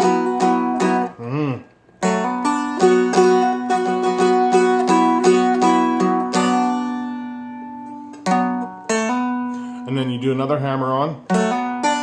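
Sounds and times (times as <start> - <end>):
dulcimer melody flatpicked: 0.0 - 1.1, 2.0 - 12.0.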